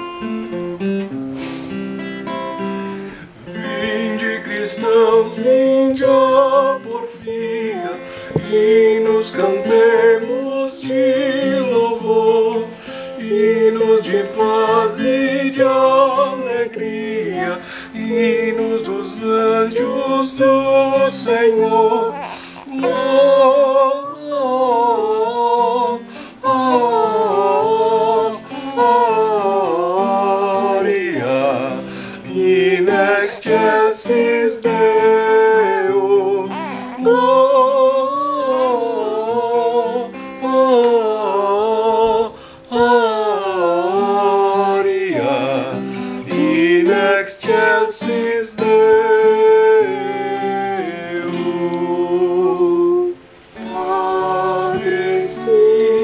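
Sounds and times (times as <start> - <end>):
acoustic guitar: 0.0 - 56.0
person singing a hymn: 1.4 - 56.0.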